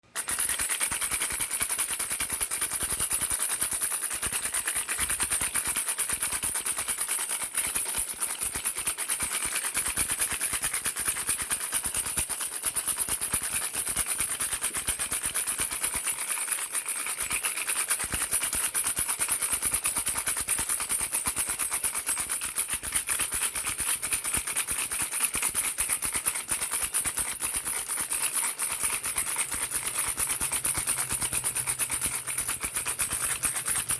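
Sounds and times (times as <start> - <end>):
baby rattle shaking: 0.0 - 33.9.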